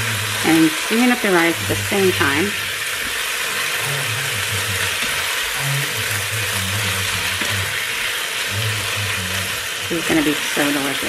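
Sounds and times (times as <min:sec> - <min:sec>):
shrimp and rice sizzling: 0:00.0 - 0:11.0.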